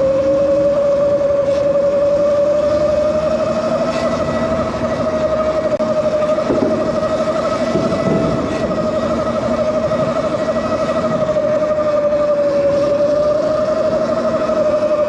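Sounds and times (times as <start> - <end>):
electric bike motor whining: 0.0 - 15.0
rushing wind: 0.0 - 15.0.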